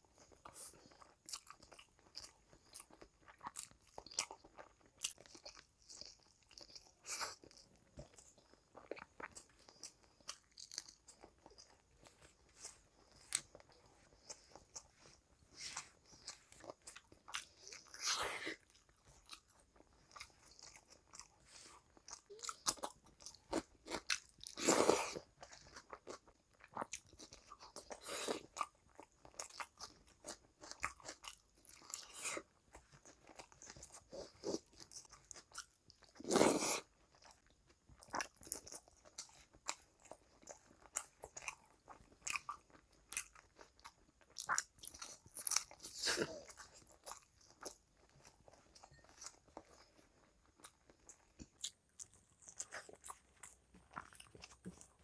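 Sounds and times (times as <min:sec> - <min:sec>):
chewing and mouth sounds: 0:00.0 - 0:55.0.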